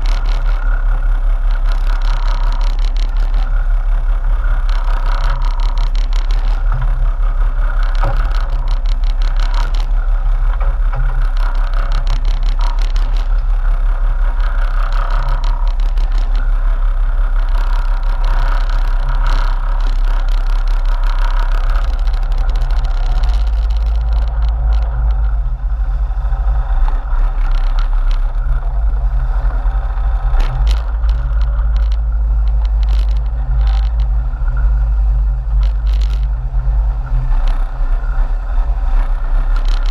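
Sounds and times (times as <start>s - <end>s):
boat engines droning: 0.0s - 39.9s
light clicks and rattles: 0.0s - 39.9s.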